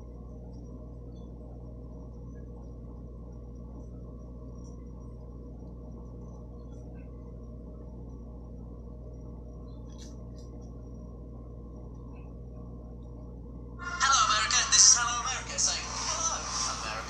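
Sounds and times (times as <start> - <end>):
faint high whine: 0.0 - 17.0
low electrical hum: 0.0 - 17.0.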